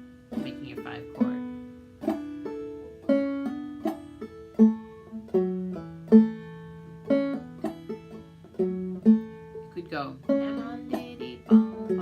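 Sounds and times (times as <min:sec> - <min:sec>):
banjo picking: 0:00.0 - 0:12.0.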